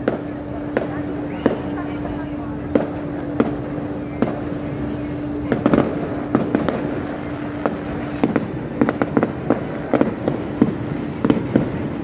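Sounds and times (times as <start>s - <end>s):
fireworks cracking and banging: 0.0s - 12.0s.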